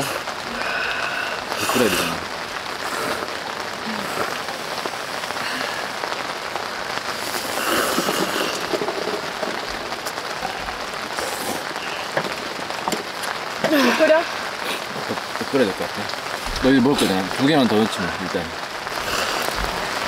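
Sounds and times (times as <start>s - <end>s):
rain on a tent: 0.0s - 20.0s.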